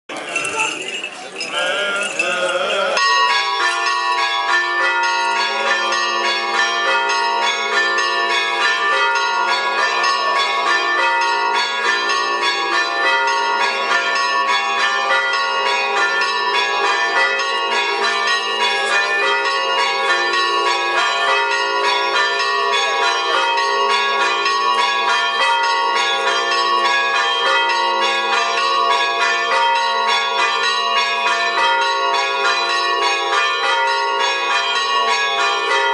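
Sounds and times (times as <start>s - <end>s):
church bells pealing: 0.1s - 35.9s.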